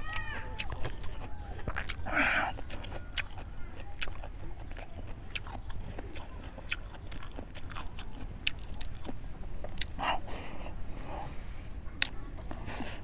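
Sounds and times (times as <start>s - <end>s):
person chewing and eating: 0.0s - 11.3s, 12.0s - 13.0s.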